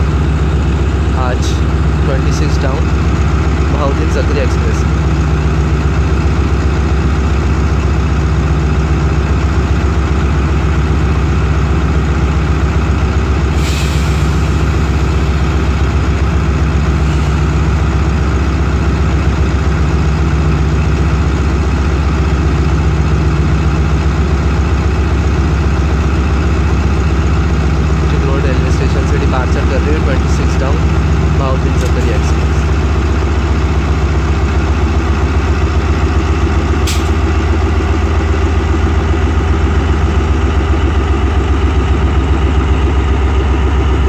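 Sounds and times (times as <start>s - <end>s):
diesel locomotive idling: 0.0s - 44.0s.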